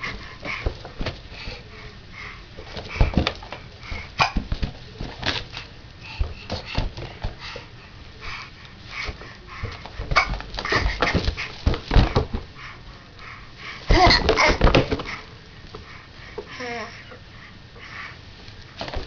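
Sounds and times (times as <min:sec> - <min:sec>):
baby breathing: 0:00.0 - 0:04.5, 0:05.4 - 0:19.0.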